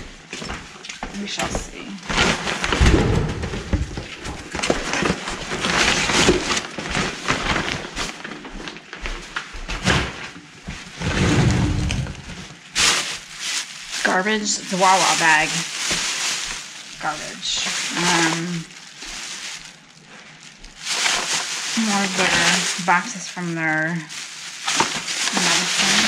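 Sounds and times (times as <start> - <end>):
plastic and paper bags rustling: 0.0 - 26.0.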